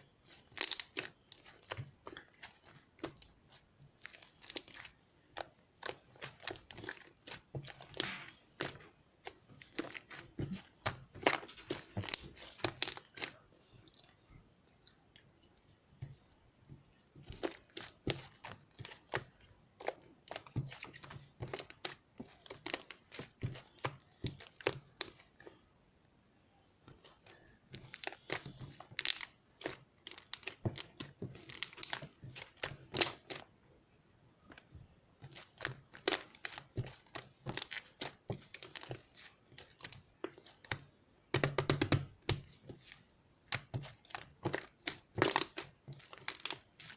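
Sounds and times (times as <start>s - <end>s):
crinkling handling noise: 0.0s - 14.0s, 15.6s - 25.6s, 26.8s - 33.5s, 34.4s - 46.9s.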